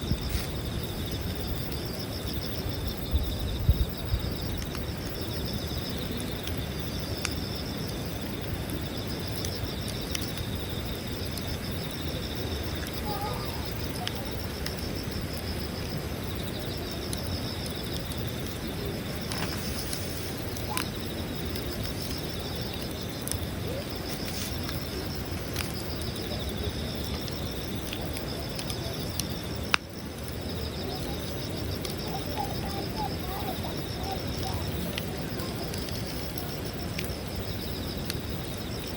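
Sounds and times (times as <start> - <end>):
campfire crackling and popping: 0.0 - 38.9
insects trilling: 0.0 - 38.9.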